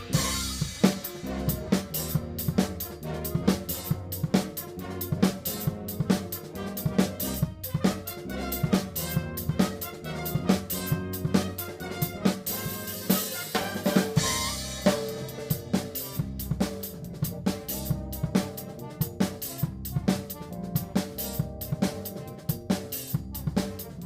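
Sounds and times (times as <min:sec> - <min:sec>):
big band chords: 0:00.0 - 0:24.0
snare and bass drum hits: 0:00.0 - 0:24.0.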